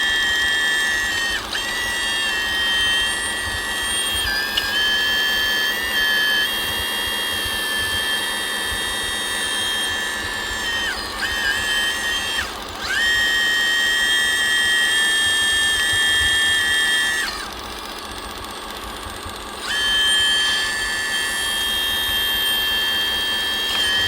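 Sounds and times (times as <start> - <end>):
small electric motor whine: 0.0 - 24.0.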